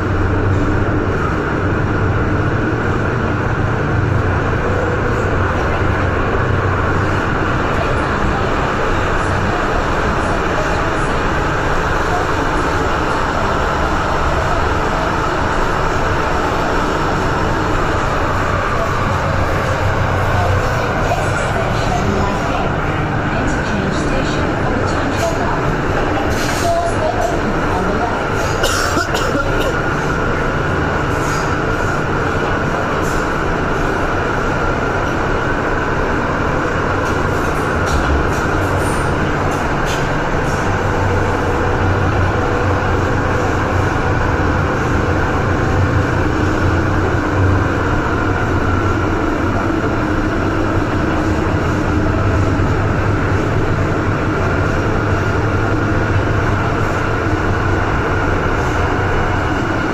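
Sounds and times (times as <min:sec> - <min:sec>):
electric train rumble and whine: 0:00.0 - 0:59.9.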